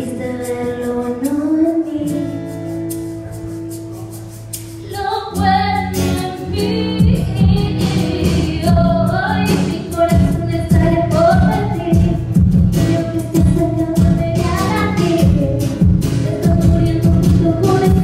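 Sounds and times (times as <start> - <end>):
woman singing into microphone: 0.0 - 3.2, 4.8 - 18.0
band accompaniment: 0.0 - 18.0.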